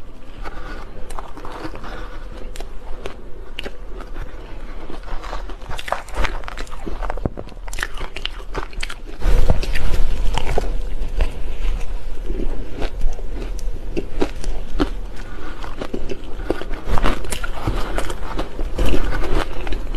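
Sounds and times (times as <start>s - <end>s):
chewing crunchy shaved ice: 0.2s - 19.9s.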